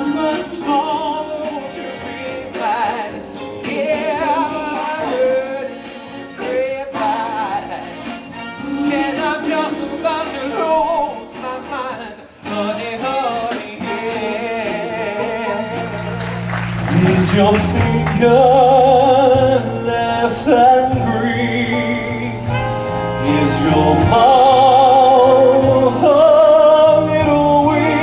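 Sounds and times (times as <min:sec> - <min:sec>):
instrumental accompaniment: 0:00.0 - 0:28.0
person singing with vibrato: 0:00.0 - 0:28.0.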